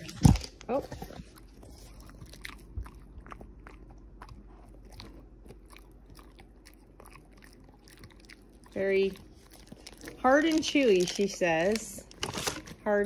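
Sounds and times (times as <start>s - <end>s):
dog crunching a chew treat: 0.0s - 12.8s.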